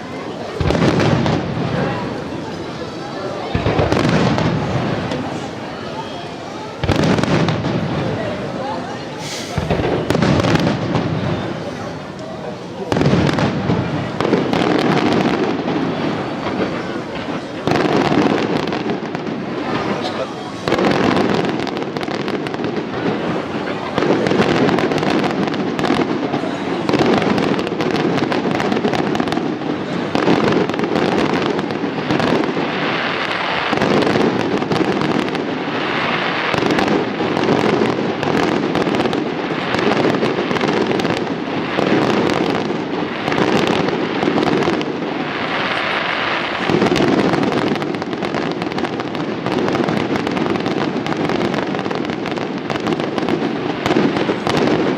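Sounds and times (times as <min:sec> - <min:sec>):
fireworks bursting and crackling: 0:00.0 - 0:54.9.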